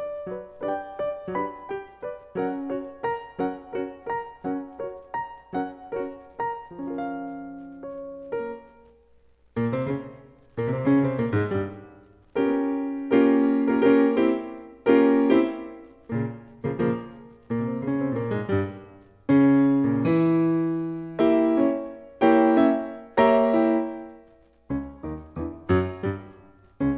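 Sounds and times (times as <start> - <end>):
solo piano: 0.0 - 26.9.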